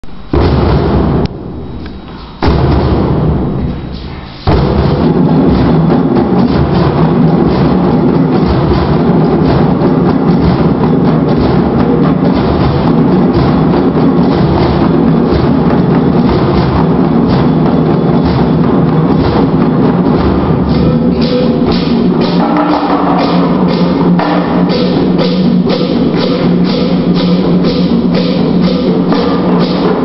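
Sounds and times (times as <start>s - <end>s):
djembe drumming: 0.3s - 30.0s.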